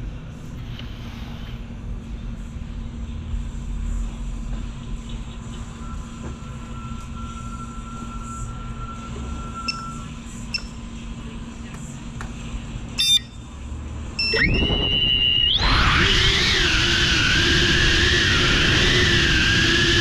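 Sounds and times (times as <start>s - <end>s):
constant hum: 0.0s - 20.0s
low room rumble: 0.0s - 20.0s.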